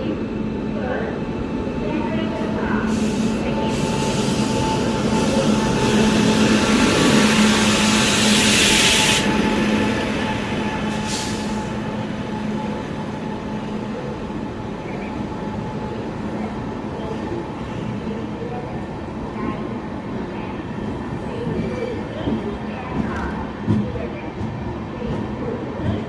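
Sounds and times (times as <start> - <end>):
passenger train running: 0.0 - 26.0.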